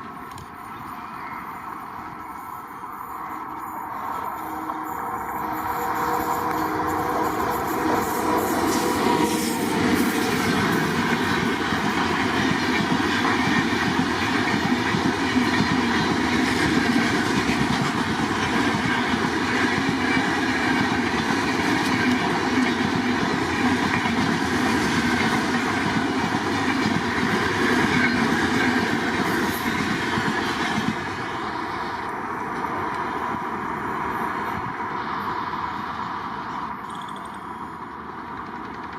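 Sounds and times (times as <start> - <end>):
train wheels clattering on track: 2.5 - 34.8, 36.4 - 38.9.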